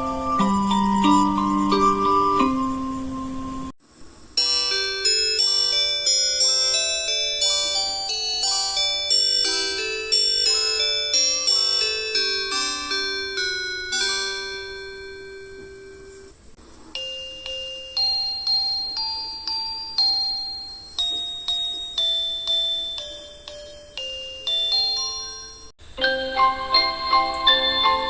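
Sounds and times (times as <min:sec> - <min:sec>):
bell-like electronic chime melody: 0:04.4 - 0:16.3, 0:17.0 - 0:28.0
fast chime: 0:04.4 - 0:16.4, 0:17.0 - 0:28.0.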